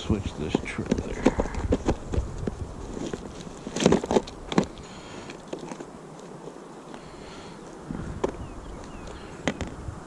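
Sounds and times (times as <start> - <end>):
quiet rustling: 0.1 - 9.8.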